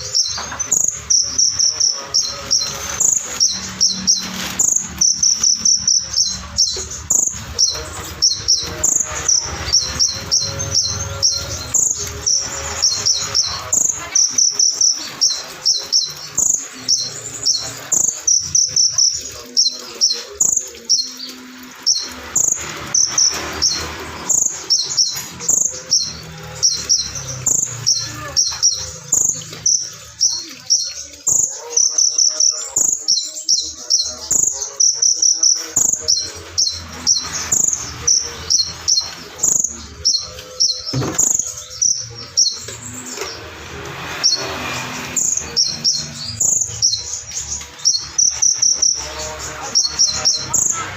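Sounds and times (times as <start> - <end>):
bird singing high chirps and trills: 0.0 - 50.9.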